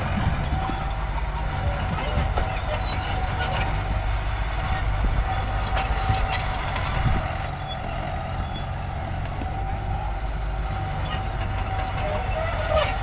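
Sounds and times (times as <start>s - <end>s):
diesel machinery rumbling with whine: 0.0s - 13.0s.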